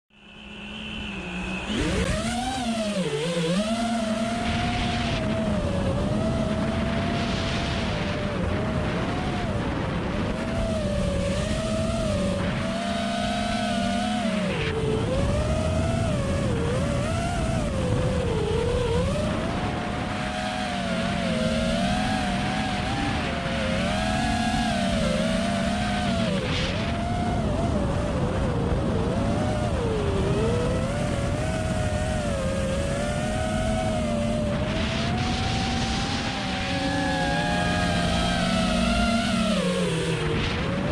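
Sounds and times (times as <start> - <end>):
quadcopter motor and propeller whine: 0.1 - 40.9.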